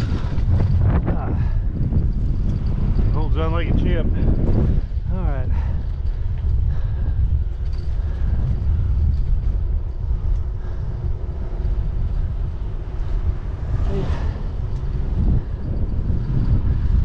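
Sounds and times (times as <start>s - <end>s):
tyre and road noise: 0.0s - 17.0s
wind rumbling on microphone: 0.0s - 17.0s.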